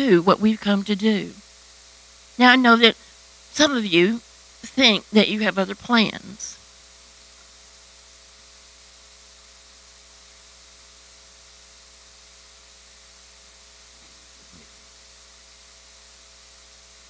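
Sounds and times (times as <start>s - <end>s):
hiss and electrical hum: 0.0s - 17.0s.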